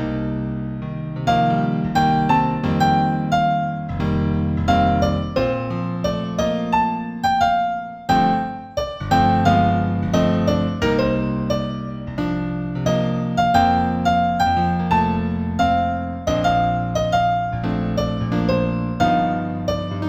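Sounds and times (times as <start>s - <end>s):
slow piano piece: 0.0s - 20.0s.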